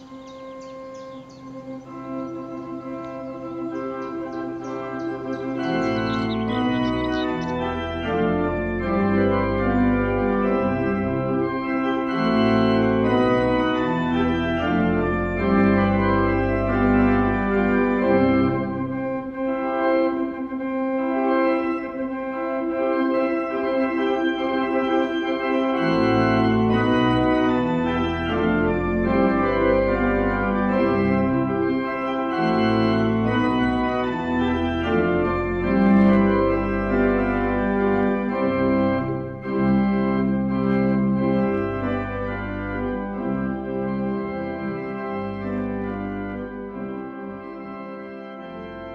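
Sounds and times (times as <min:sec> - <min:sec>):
deep organ pedal bass: 0:00.0 - 0:48.9
organ chords: 0:00.0 - 0:48.9.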